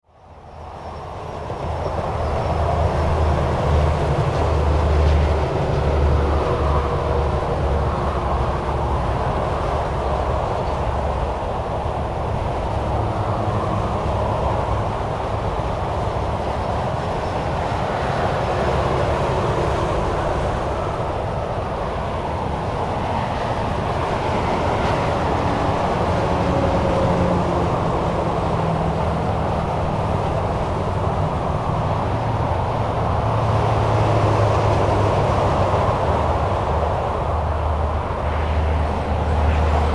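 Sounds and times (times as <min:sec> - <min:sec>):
highway traffic: 0:00.0 - 0:39.9.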